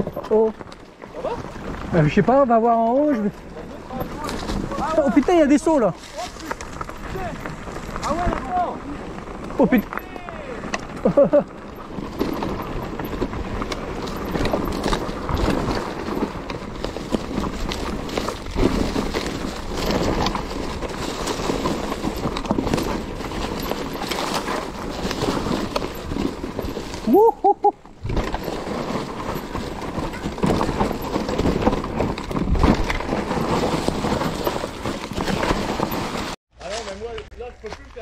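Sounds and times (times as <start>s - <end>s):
mountain bike rattling: 0.0s - 38.0s
wind noise: 3.3s - 36.4s.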